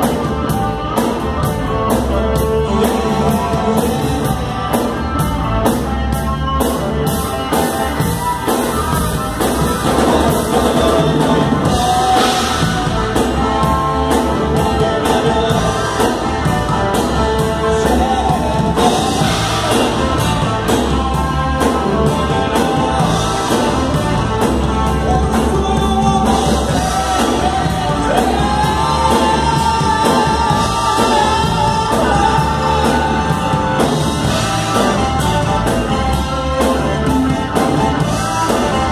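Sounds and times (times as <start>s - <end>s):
person singing: 0.0s - 5.4s, 6.2s - 38.9s
bending lead guitar line: 0.0s - 38.9s
rock band playing: 0.0s - 38.9s.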